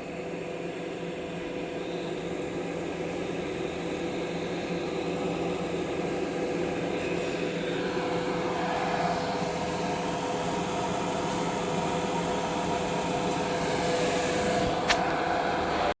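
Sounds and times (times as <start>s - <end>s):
router mechanical whir: 0.0s - 15.9s.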